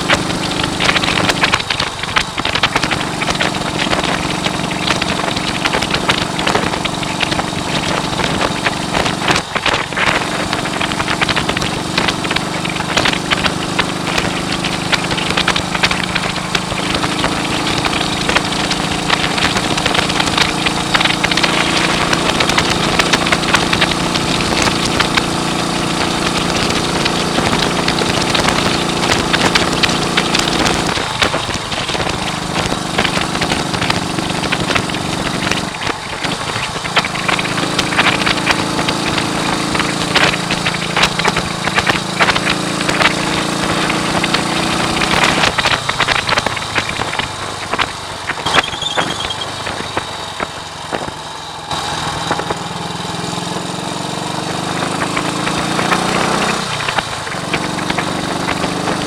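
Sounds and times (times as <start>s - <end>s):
wind buffeting microphone: 0.0s - 53.3s
motorcycle engine running: 0.0s - 59.0s.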